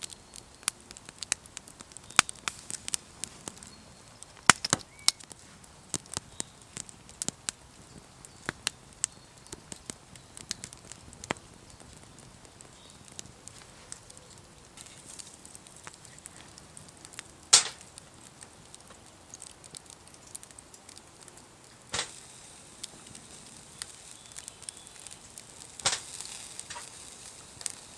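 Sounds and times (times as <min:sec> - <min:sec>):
campfire wood crackling and popping: 0:00.0 - 0:27.9.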